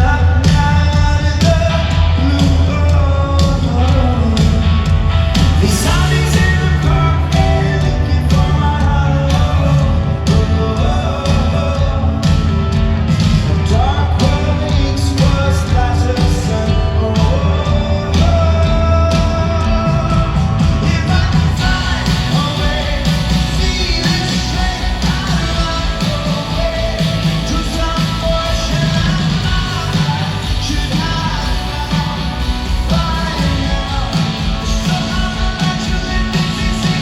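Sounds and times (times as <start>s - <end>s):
lead vocals: 0.0s - 37.0s
live rock band playing: 0.0s - 37.0s
drum beat: 3.4s - 37.0s.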